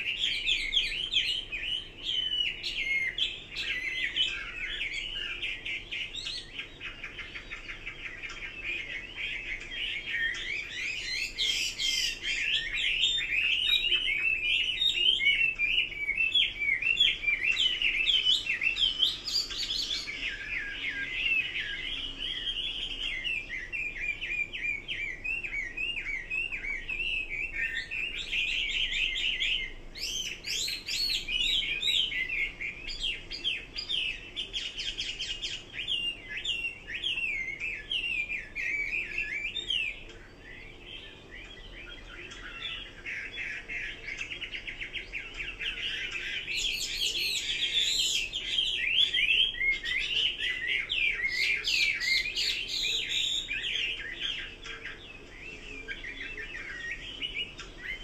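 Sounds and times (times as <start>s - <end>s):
bird singing whistled trills: 0.0s - 58.0s.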